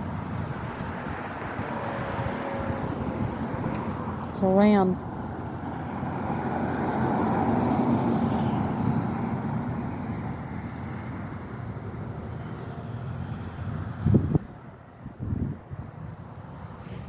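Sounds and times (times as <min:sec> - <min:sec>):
pickup truck passing: 0:00.0 - 0:14.9.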